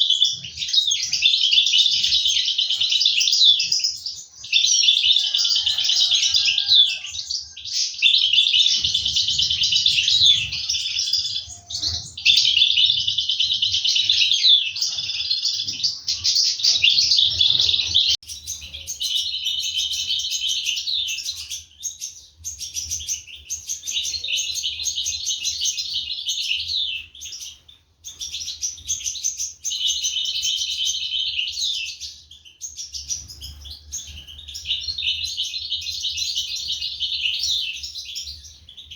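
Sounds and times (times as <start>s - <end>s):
finches chirping rapidly: 5.6s - 38.9s.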